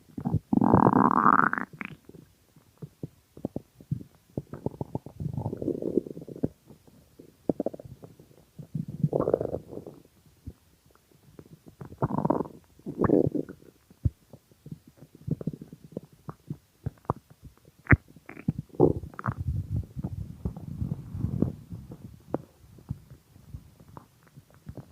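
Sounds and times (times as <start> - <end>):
stomach growling: 0.2 - 24.9.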